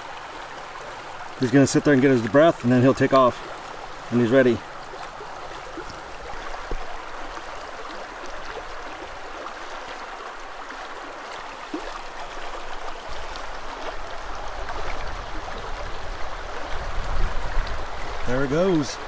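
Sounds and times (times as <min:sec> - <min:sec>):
river water rushing over shallows: 0:00.0 - 0:19.0.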